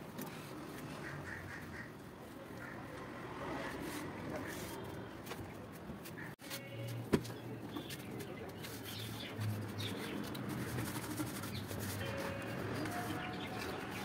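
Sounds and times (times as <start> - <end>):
background noise: 0.0 - 14.0.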